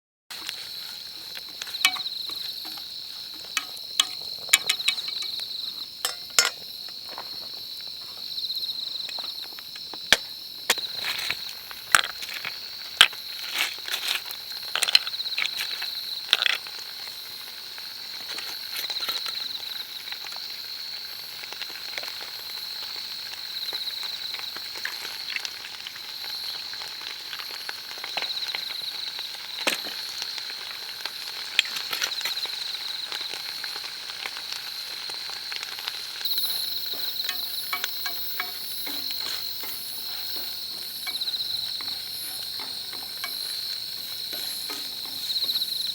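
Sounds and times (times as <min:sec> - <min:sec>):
fire crackling: 0:00.3 - 0:45.9
insects chirping: 0:00.3 - 0:45.9.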